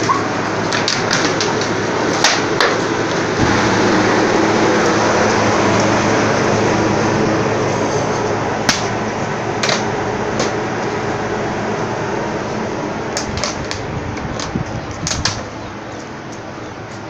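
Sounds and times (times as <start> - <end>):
machine drone: 0.0 - 17.0.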